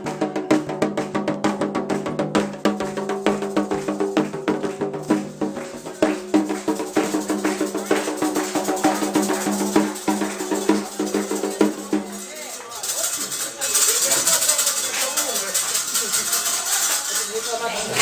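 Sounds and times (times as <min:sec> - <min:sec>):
drums: 0:00.0 - 0:18.0
struck percussion: 0:00.0 - 0:18.0.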